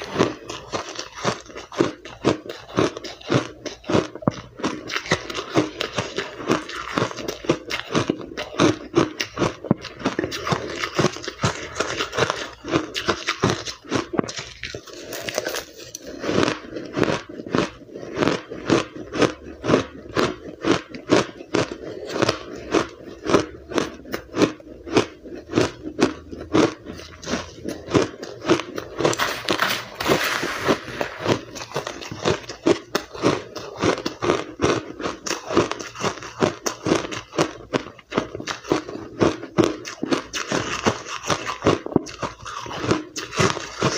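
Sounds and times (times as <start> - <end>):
crushed ice being chewed: 0.0 - 43.9.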